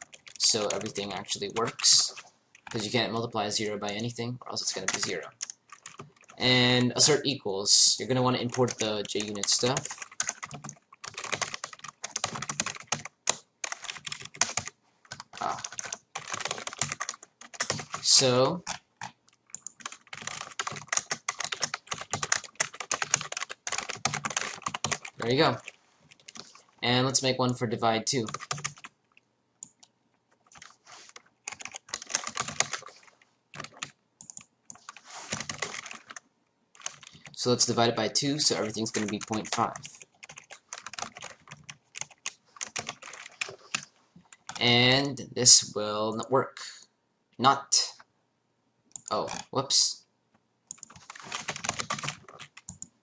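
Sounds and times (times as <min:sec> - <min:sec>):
computer keyboard typing: 0:00.0 - 0:07.2, 0:08.1 - 0:26.6, 0:27.4 - 0:36.2, 0:36.8 - 0:37.4, 0:38.5 - 0:44.7, 0:50.7 - 0:53.0.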